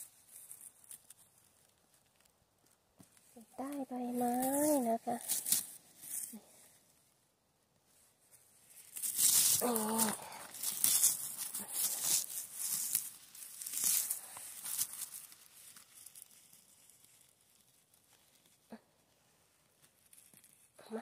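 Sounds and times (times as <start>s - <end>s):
dry grass rustling by hand: 0.0s - 7.2s, 7.8s - 21.0s.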